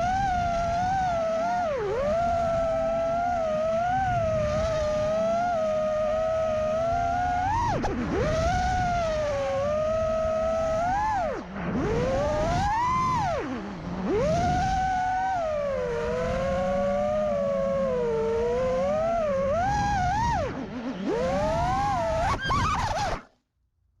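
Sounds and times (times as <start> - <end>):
drone motors whining: 0.0 - 23.3.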